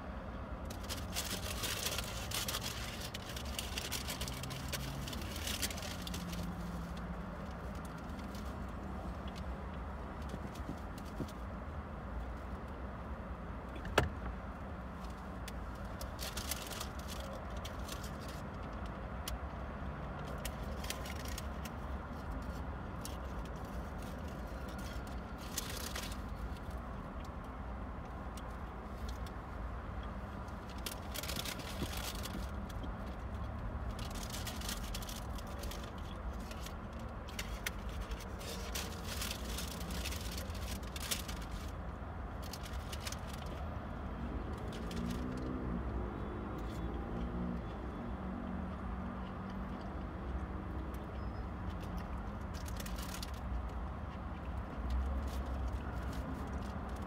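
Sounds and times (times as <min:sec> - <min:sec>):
traffic rumble: 0:00.0 - 0:57.0.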